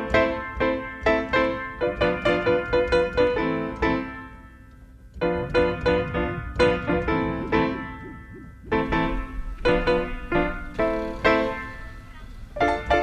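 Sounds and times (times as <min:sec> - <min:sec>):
keyboard melody: 0:00.0 - 0:13.0.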